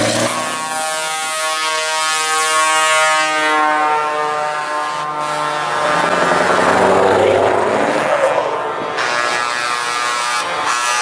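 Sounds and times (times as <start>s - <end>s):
truck air horn chords: 0.0s - 6.8s, 7.9s - 11.0s
truck engine and road noise: 0.0s - 11.0s.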